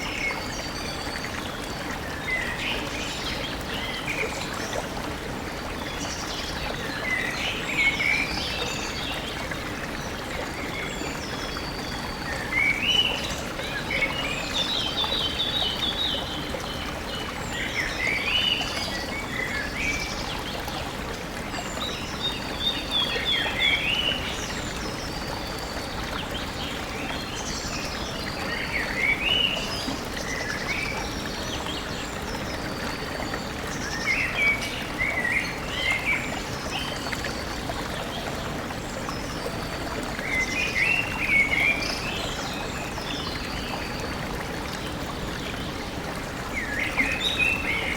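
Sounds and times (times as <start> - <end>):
stream water running: 0.0 - 47.9.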